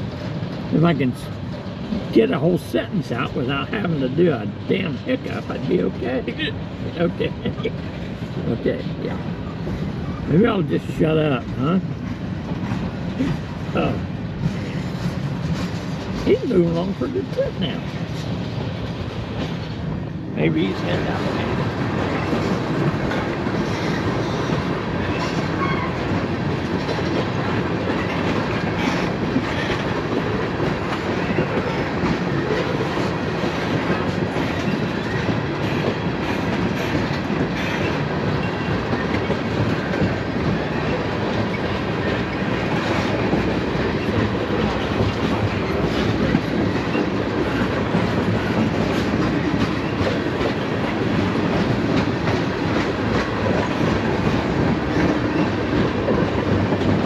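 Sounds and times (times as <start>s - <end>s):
train wheels rumbling and clicking: 0.0s - 57.0s.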